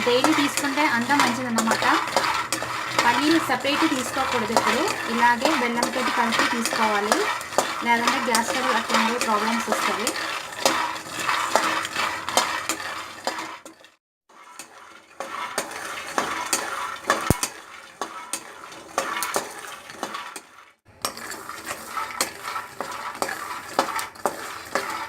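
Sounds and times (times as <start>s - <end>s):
nuts rattling in a pan: 0.0s - 25.0s
spoon against pan: 0.0s - 25.0s.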